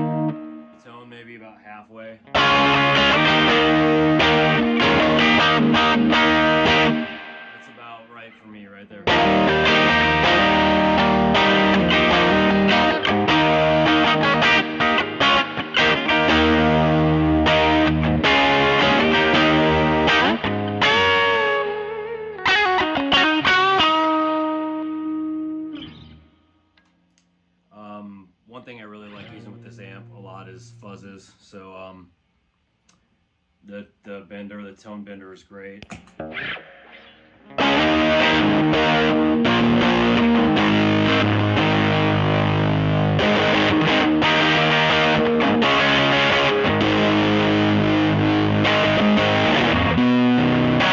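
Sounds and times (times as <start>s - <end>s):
overdriven electric guitar: 0.0s - 0.9s, 2.2s - 7.8s, 9.0s - 27.0s, 29.0s - 31.0s, 35.8s - 50.9s.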